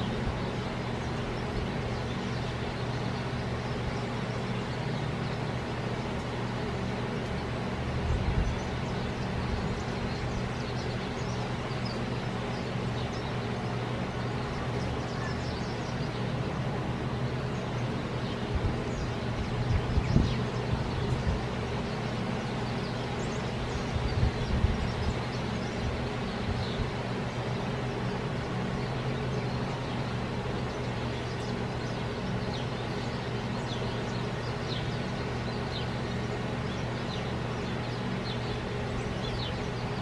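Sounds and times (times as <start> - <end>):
sparrows chirping: 0.0 - 40.0
steady low hum: 0.0 - 40.0.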